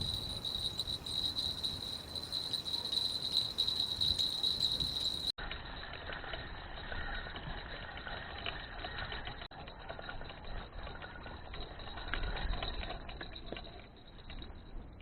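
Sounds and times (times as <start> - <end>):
fishing reel whirring and ticking: 0.0 - 14.4.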